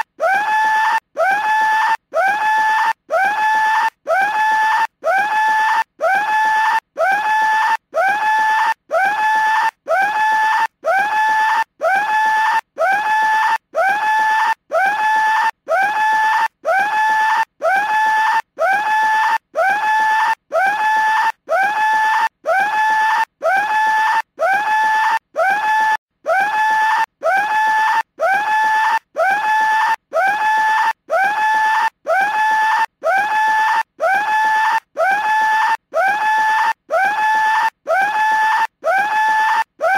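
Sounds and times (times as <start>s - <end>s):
toy telephone ringing with scream: 0.0s - 39.9s.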